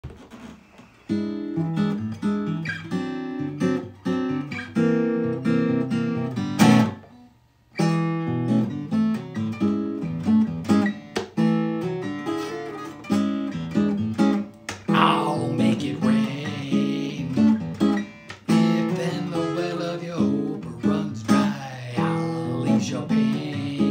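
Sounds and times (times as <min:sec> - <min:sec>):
acoustic guitar chords: 0:01.1 - 0:23.9.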